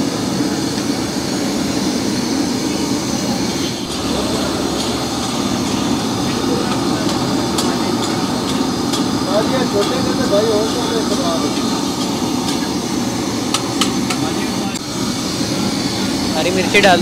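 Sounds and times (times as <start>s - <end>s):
gas flames burning: 0.0s - 17.0s.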